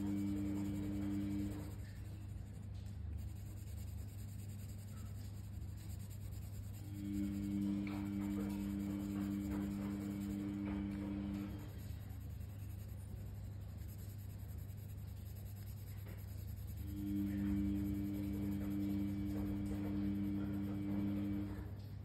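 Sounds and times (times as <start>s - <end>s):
pencil scratching on paper: 0.0s - 21.8s.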